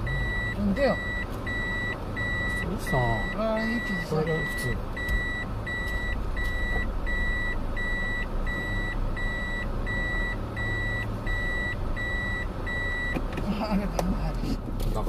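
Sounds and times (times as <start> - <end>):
reverse warning beeps: 0.0 - 13.2
car hum: 0.0 - 15.0.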